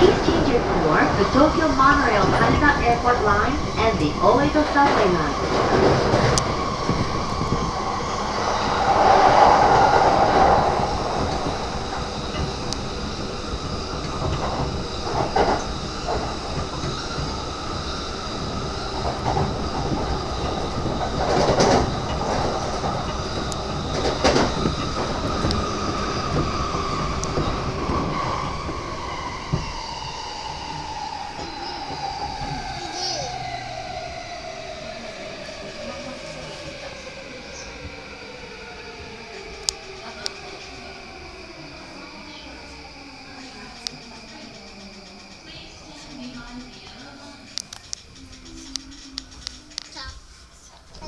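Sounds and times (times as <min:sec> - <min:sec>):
train clattering: 0:00.0 - 0:51.0
train wheels rumbling on rails: 0:00.0 - 0:51.0.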